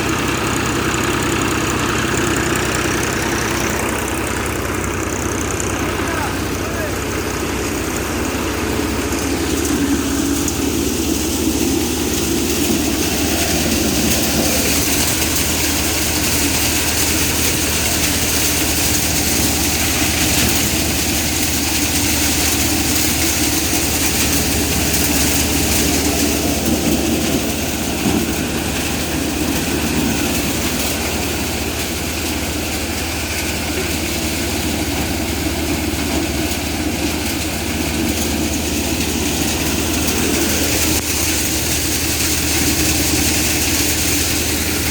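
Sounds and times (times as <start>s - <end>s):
threshing machine clatter: 0.0s - 44.9s
tractor diesel engine drone: 0.0s - 44.9s.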